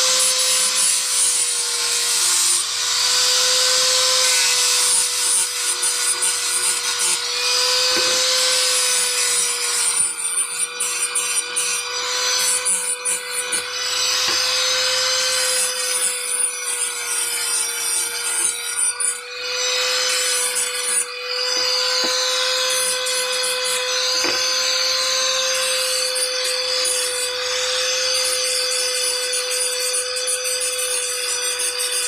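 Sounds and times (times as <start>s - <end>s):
power tool motor whine: 0.0s - 32.0s
rasping of cutting or sanding: 0.0s - 32.0s.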